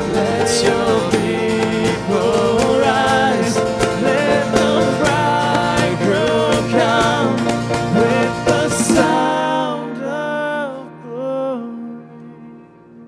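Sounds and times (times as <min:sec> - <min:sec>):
guitar and strings playing: 0:00.0 - 0:13.0
person singing: 0:00.0 - 0:13.0.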